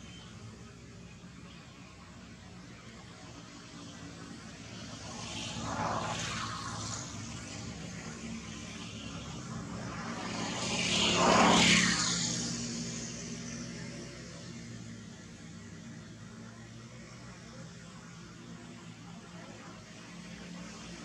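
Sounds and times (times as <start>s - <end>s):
engine passing by: 2.3s - 21.0s.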